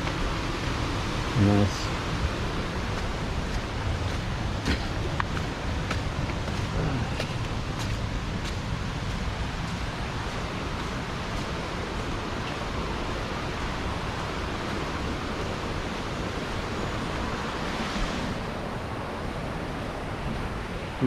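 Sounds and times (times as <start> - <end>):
fast-flowing creek: 0.0 - 21.0.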